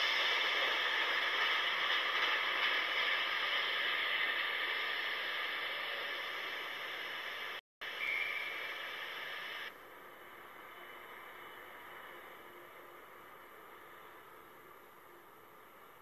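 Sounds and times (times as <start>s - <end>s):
train passing with steady hiss: 0.0s - 16.0s.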